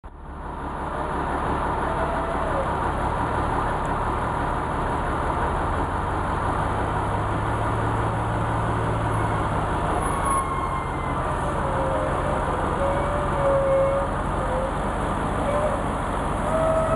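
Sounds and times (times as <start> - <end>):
diesel truck engine droning: 0.0 - 16.9.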